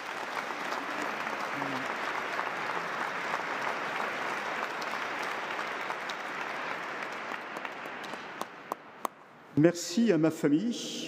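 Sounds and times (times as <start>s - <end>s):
congregation applauding: 0.0s - 9.1s.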